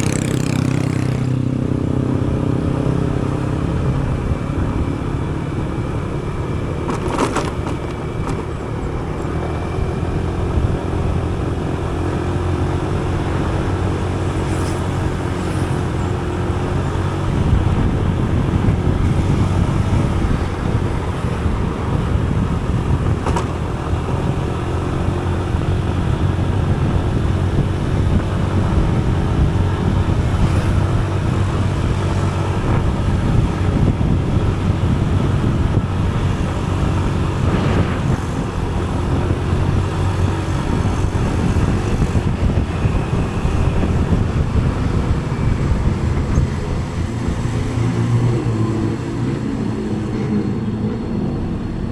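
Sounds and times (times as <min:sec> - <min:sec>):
motorcycle engine running: 0:00.0 - 0:47.5
wind and road noise: 0:00.0 - 0:51.9.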